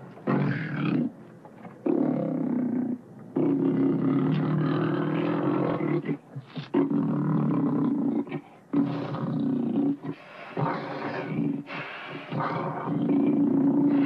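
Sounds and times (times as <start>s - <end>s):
cartoon tiger roaring: 1.8s - 14.0s.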